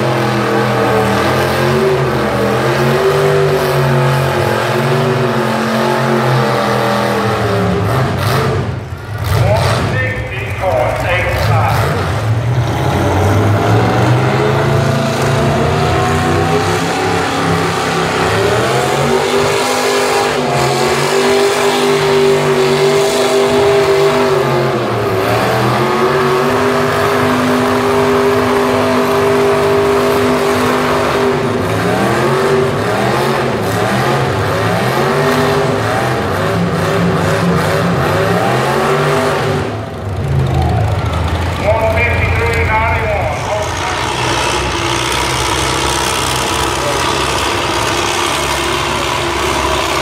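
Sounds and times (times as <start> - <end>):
tractor engine under heavy load: 0.0 - 50.0.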